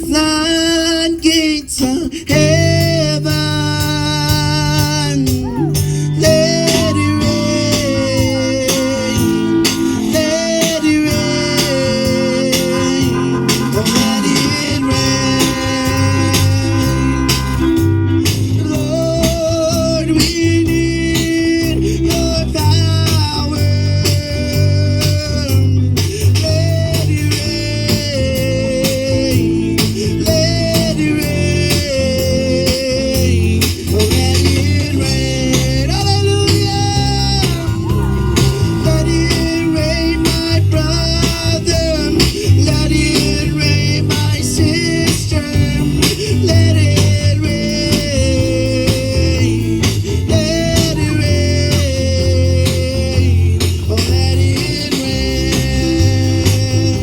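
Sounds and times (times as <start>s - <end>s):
band playing instrumental: 0.0s - 57.0s
gospel song with sliding guitar: 0.0s - 57.0s
held lead line: 2.0s - 31.7s, 33.6s - 57.0s.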